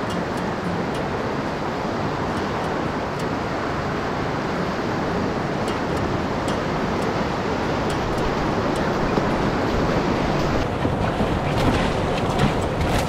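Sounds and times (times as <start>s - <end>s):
churning whitewater: 0.0s - 13.0s.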